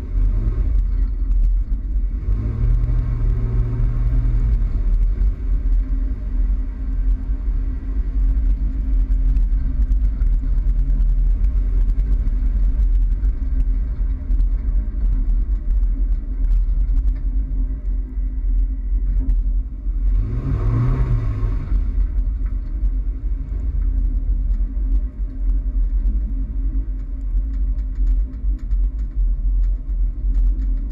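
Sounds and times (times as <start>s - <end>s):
truck engine and road noise: 0.0s - 30.9s.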